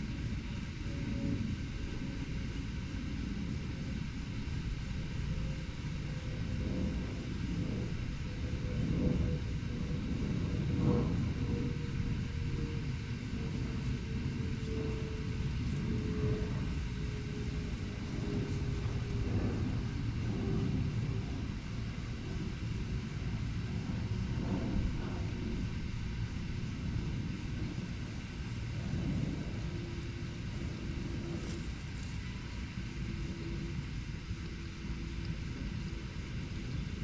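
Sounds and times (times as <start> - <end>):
distant traffic rumble: 0.0 - 37.0
faint hum sliding lower: 0.0 - 37.0.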